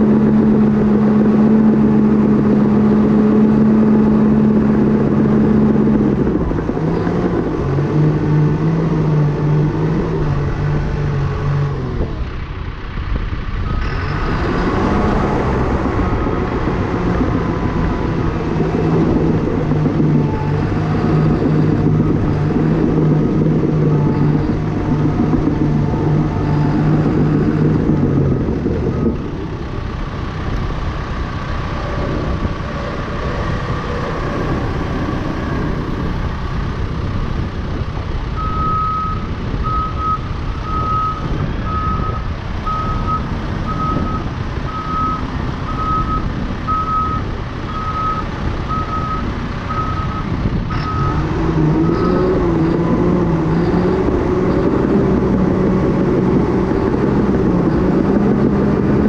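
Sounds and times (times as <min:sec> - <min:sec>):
dozer diesel engine running: 0:00.0 - 0:59.0.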